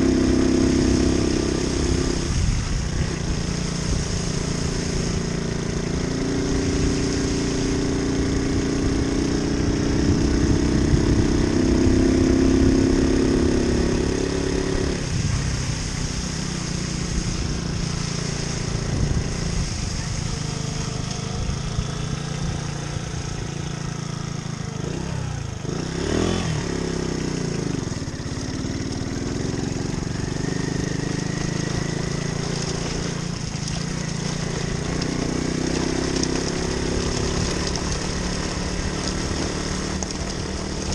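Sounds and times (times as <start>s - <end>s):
moped engine running: 0.0s - 40.9s.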